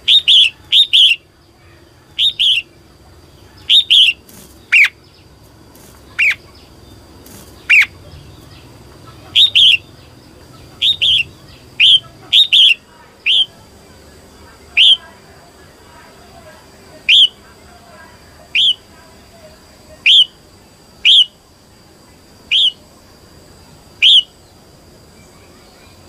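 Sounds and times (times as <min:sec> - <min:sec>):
bird chirping calls: 0:00.0 - 0:21.4, 0:22.4 - 0:26.0.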